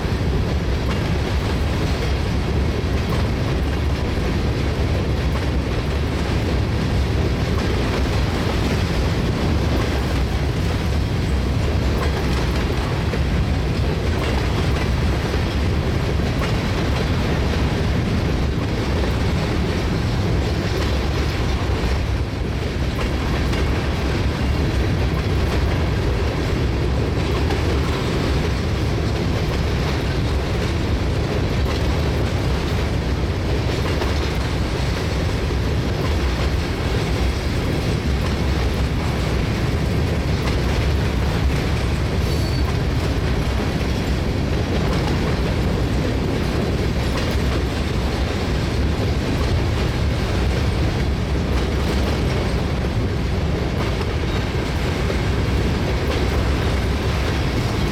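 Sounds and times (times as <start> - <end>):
steel wheels on rails: 0.0 - 57.9.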